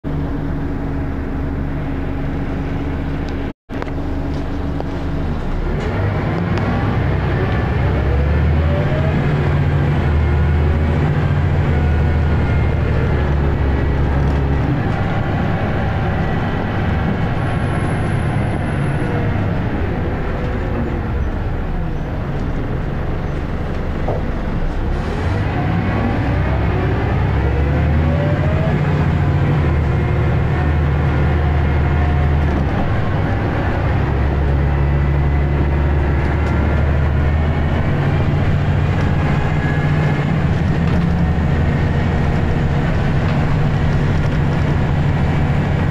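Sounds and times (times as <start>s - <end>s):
bus engine idling and accelerating: 0.0s - 45.9s.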